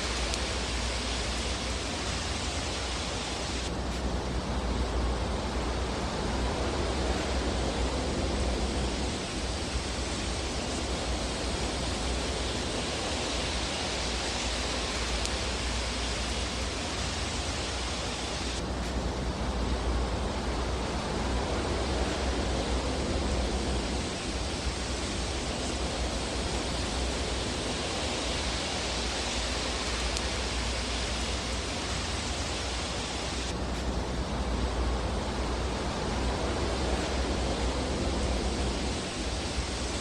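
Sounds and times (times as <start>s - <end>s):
fireplace fire hissing: 0.0s - 40.0s.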